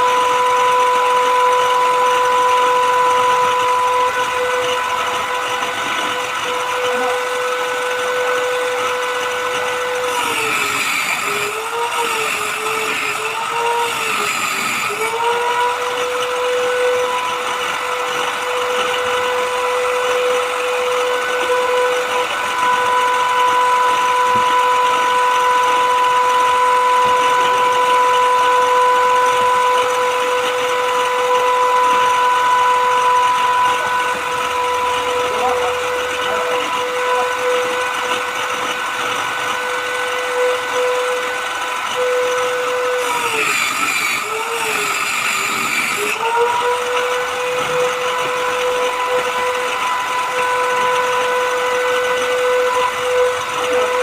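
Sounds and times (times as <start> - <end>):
electric power tool whining: 0.0 - 54.0.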